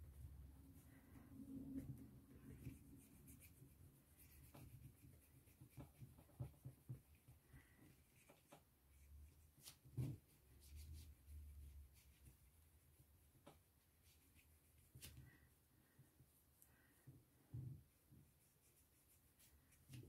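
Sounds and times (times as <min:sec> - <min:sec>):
brush scratching and tapping: 0:00.0 - 0:15.4, 0:16.1 - 0:20.0.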